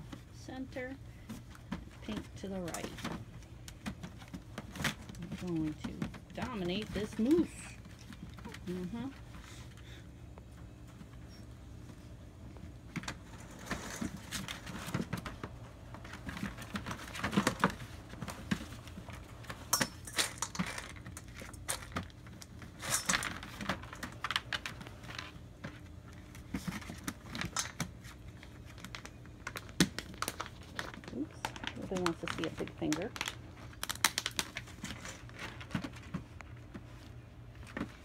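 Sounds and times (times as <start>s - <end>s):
paws scratching on plastic: 0.0s - 19.7s, 20.6s - 38.0s.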